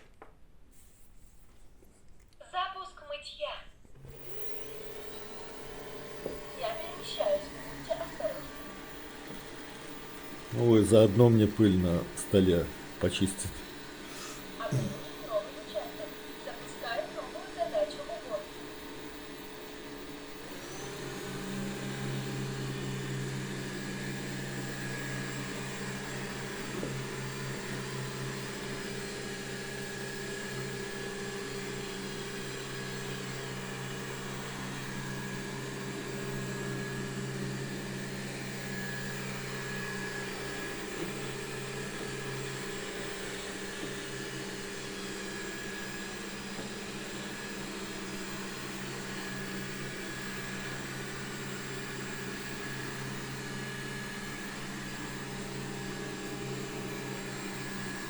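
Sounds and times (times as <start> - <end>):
robot vacuum motor humming: 4.0 - 58.0.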